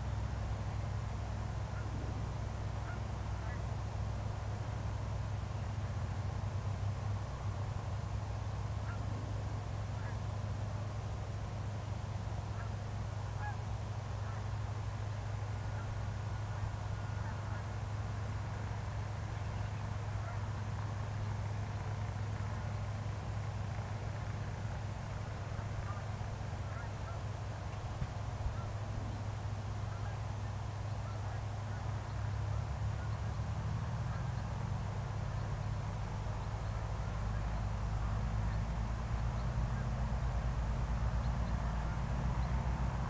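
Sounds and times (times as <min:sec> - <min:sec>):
aircraft piston engine drone: 0:00.0 - 0:43.0.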